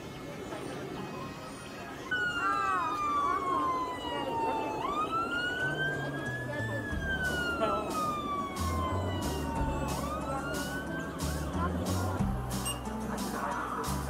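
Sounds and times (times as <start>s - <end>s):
faint music with beat: 0.0s - 14.0s
fire truck siren wailing: 1.4s - 14.0s.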